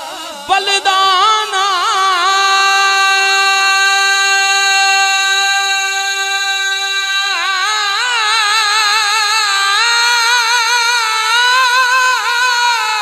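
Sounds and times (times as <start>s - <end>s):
man singing through microphone: 0.0s - 13.0s.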